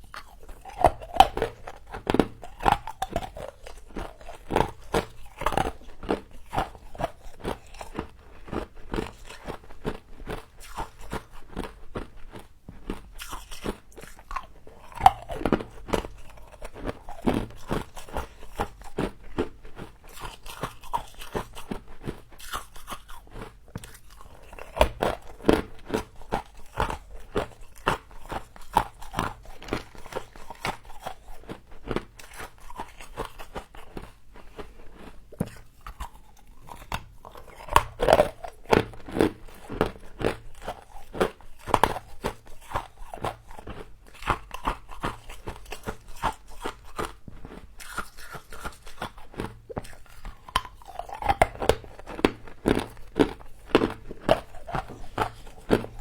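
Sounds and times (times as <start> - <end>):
crunchy ice being chewed: 0.0 - 56.0.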